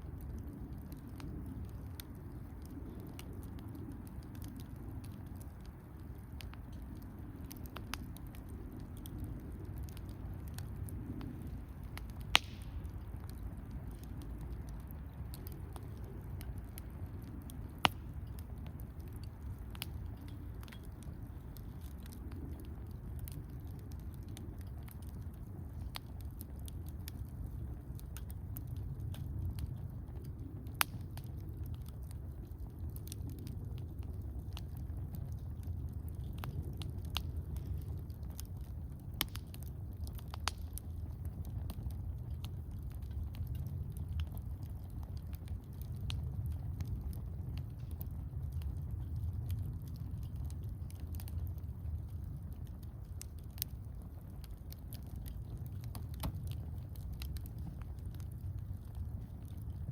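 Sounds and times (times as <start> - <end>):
burning wood popping: 0.0 - 59.9
campfire flame rumble: 0.0 - 59.9
fire crackling: 0.0 - 59.9.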